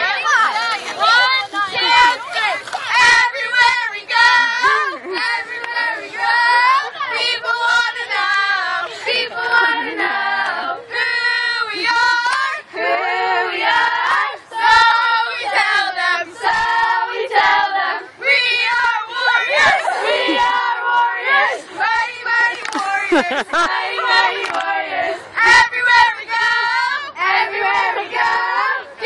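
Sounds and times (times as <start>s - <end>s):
girls singing a chant: 0.0s - 29.0s.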